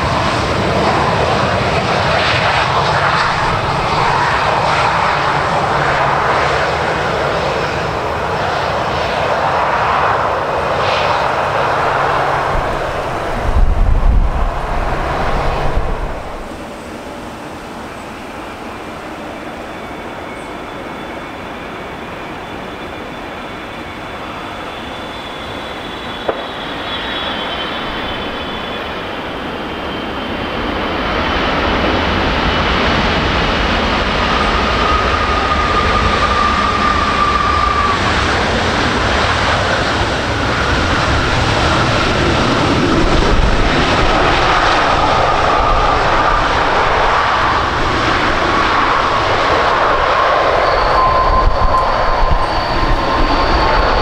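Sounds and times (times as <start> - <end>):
jet engines whining and roaring: 0.0 - 54.0.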